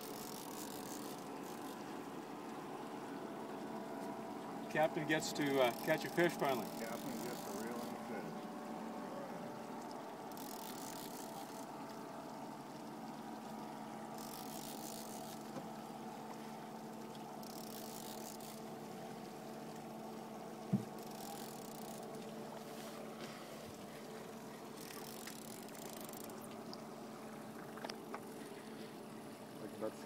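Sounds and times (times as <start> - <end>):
boat motor humming: 0.0 - 30.0.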